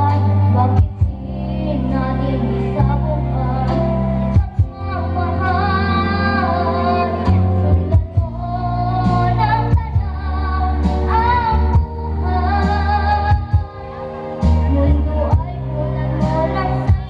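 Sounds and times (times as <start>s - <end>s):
backing music with bass line: 0.0s - 17.0s
girl singing: 0.0s - 17.0s.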